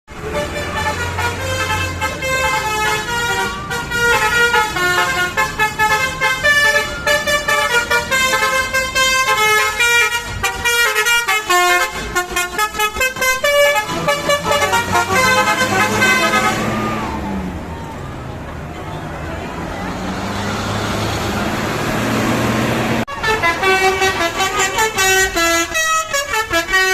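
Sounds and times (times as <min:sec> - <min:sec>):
musical bus horn melody: 0:00.1 - 0:17.4, 0:22.6 - 0:26.9
bus engine running: 0:00.1 - 0:26.9.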